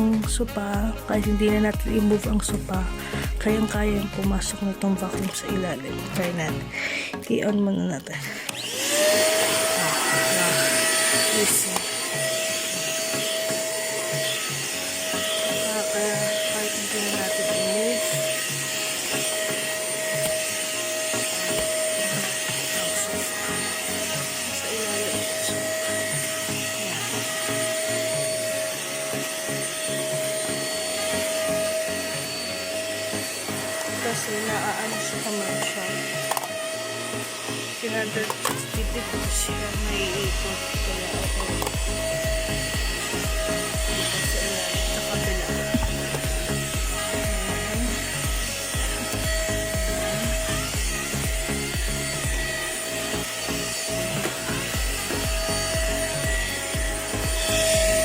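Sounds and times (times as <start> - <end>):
background music with steady beat: 0.0 - 58.0
handheld vacuum cleaner whine: 0.0 - 58.0.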